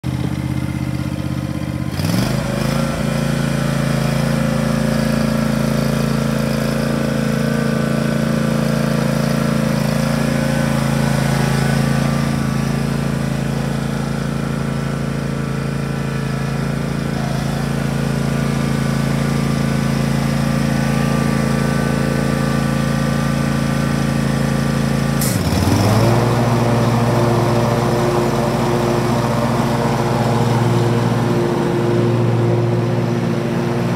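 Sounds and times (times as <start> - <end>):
riding mower engine running: 0.0 - 33.9.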